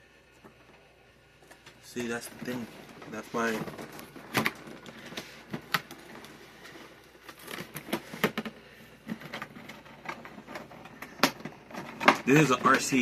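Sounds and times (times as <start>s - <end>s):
packaging taps and rustles: 2.4s - 13.0s.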